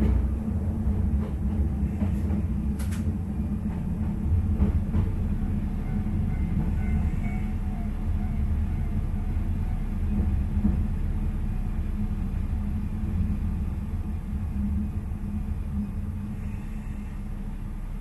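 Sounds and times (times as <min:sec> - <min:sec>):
diesel railcar rumble: 0:00.0 - 0:18.0.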